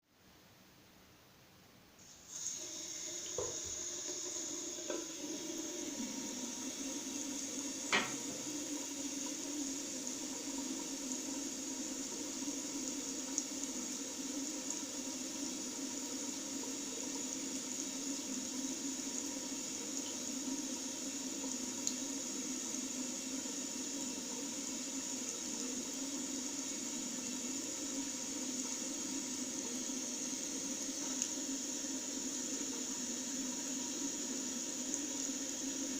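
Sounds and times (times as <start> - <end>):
tap water running into basin: 2.0 - 35.9.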